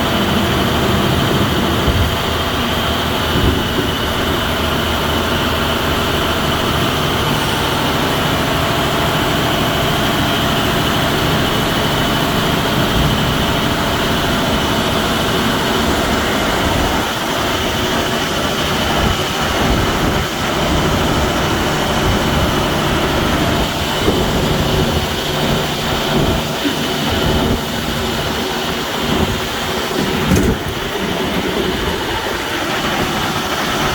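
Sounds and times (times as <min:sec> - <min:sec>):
continuous high whine: 0:00.0 - 0:33.9
truck mechanical drone: 0:00.0 - 0:33.9.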